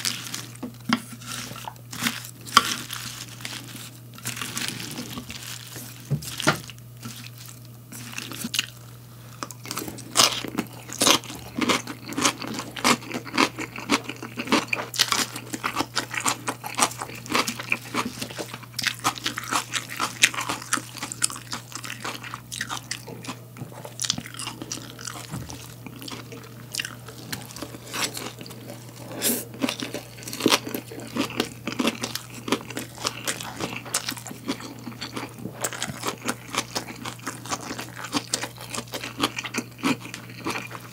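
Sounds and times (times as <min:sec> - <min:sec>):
chewing crisp vegetables: 0:00.0 - 0:40.9.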